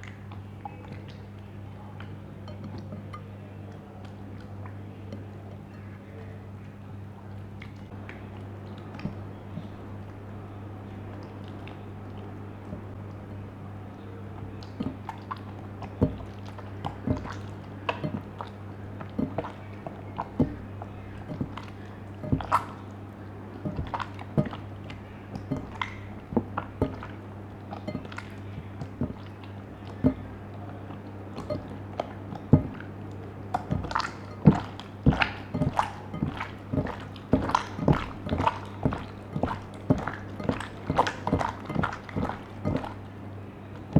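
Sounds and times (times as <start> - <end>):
slime squishing with wet clicks: 0.0 - 43.9
steady low hum: 0.0 - 43.9.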